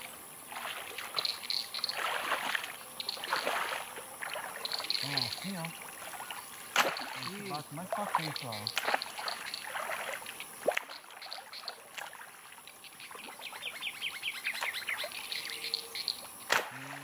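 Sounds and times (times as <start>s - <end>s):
faint water sounds: 0.0s - 17.0s
birds chirping: 1.1s - 2.1s, 2.8s - 11.9s, 12.6s - 17.0s.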